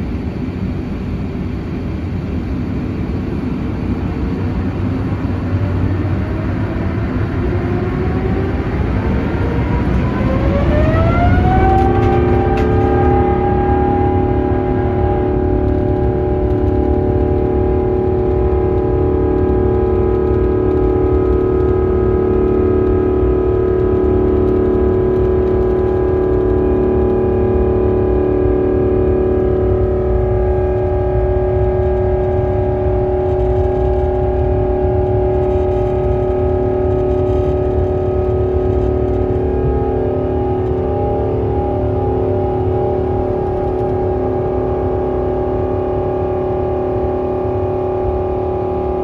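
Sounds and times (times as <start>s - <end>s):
jet engine whine and rumble: 0.0s - 49.0s.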